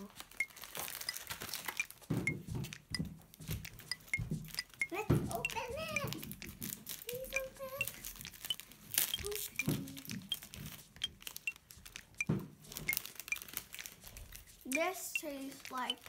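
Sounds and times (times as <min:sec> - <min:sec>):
plastic wrapper crinkling: 0:00.0 - 0:16.0.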